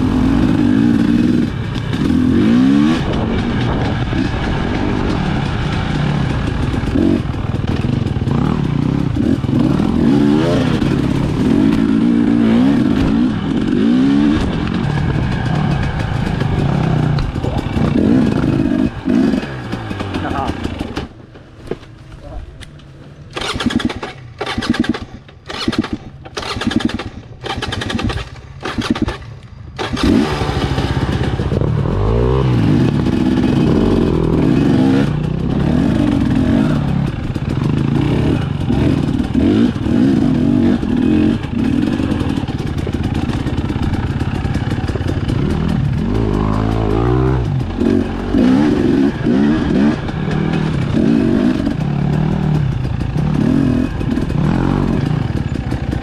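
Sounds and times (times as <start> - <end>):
two-stroke motorcycle engine revving: 0.0 - 21.3, 23.3 - 56.0.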